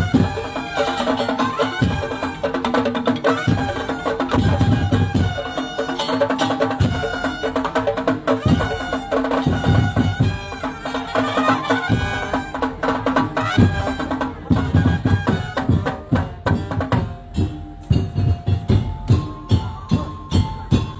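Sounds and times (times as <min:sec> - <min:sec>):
drums: 0:00.0 - 0:20.9
wood-block strokes: 0:00.0 - 0:20.9.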